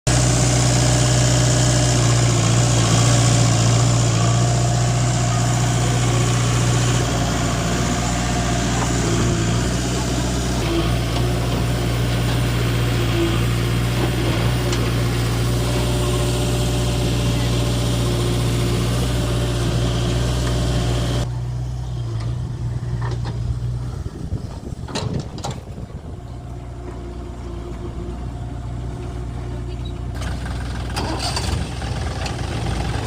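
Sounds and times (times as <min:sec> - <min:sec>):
heavy diesel engine running: 0:00.1 - 0:33.0.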